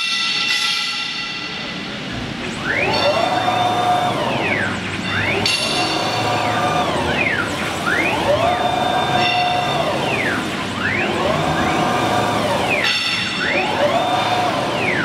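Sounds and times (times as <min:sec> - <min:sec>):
motors whining: 0:02.1 - 0:15.0.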